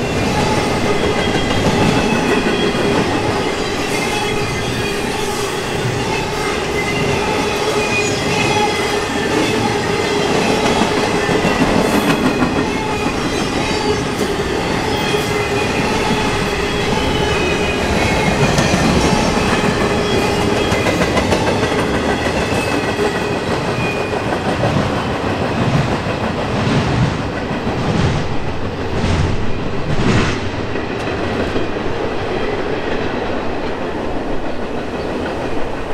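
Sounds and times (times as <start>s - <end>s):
freight train rumbling past: 0.0s - 35.9s.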